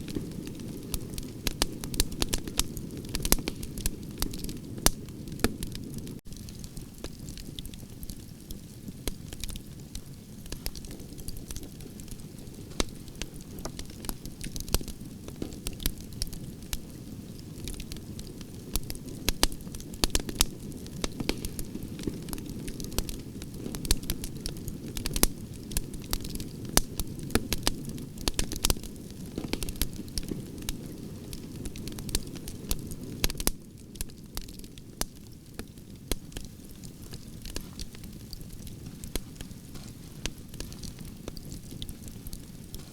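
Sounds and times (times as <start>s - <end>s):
campfire crackling: 0.0s - 42.9s
low rumble of flames: 0.0s - 42.9s
sharp snaps of burning wood: 0.0s - 42.9s.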